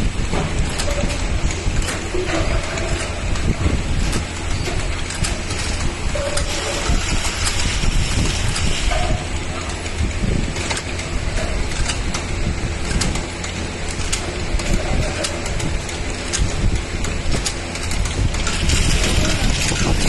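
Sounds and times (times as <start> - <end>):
machine rumbling: 0.0 - 20.0
sharp mechanical clicks: 0.6 - 20.0.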